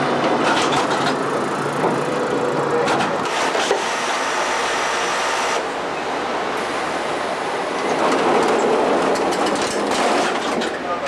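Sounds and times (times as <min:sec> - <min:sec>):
rail vehicle rumbling on track: 0:00.0 - 0:11.0.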